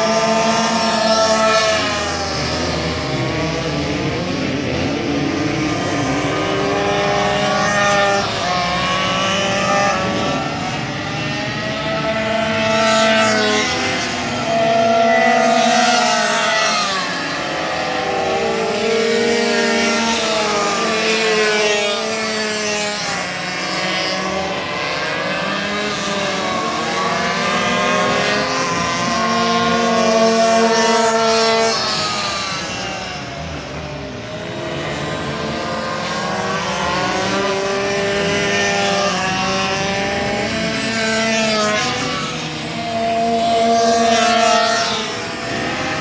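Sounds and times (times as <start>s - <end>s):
racing minibike engines revving: 0.0s - 46.0s.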